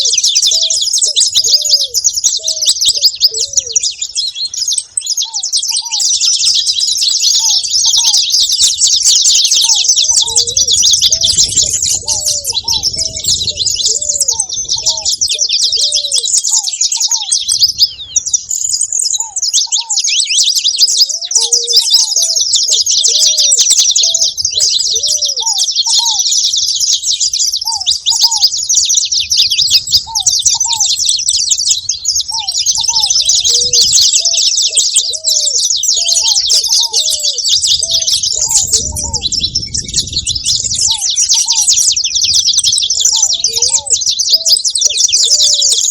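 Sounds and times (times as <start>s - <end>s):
finch singing high chirps: 0.0s - 45.9s
lower-pitched bird calling: 0.0s - 45.9s.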